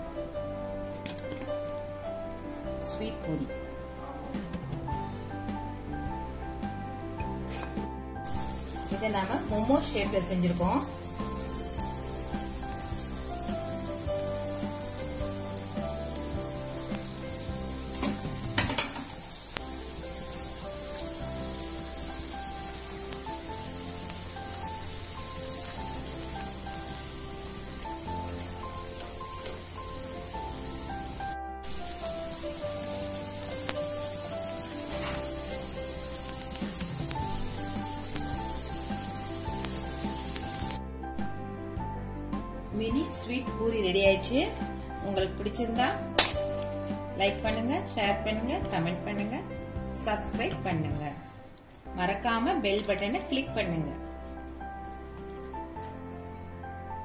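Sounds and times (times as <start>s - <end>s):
deep-frying sizzle: 0.0s - 51.6s
soft background music: 0.0s - 57.0s.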